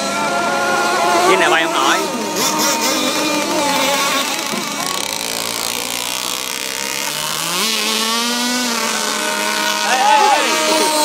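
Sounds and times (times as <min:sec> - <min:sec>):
toy speedboat motors whining: 0:00.0 - 0:11.0.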